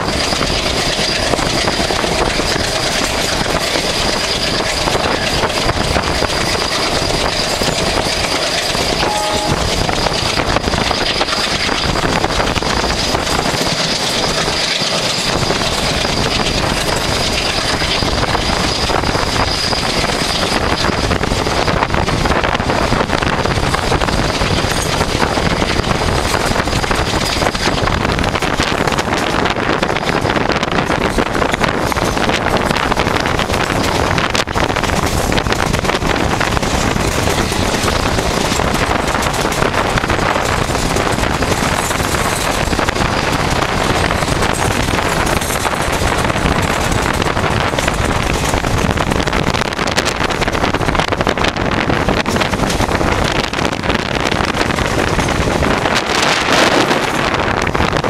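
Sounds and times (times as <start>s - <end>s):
train rushing on rails: 0.0s - 58.0s
wind buffeting microphone: 0.0s - 58.0s.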